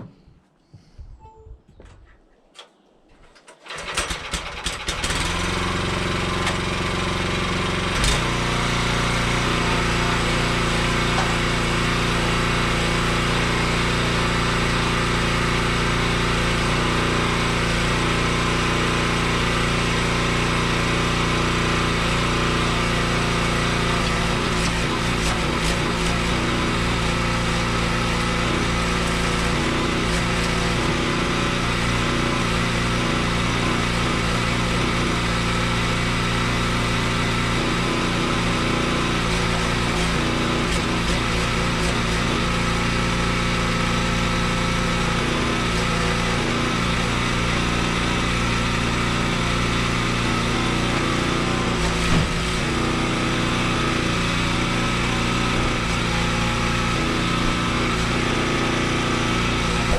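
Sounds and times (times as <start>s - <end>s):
small gasoline engine running: 3.6s - 59.9s.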